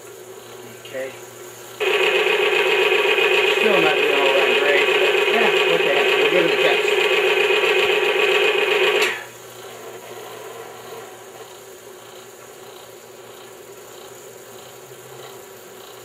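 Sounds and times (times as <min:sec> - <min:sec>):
quiet machine running noise: 0:00.0 - 0:16.0.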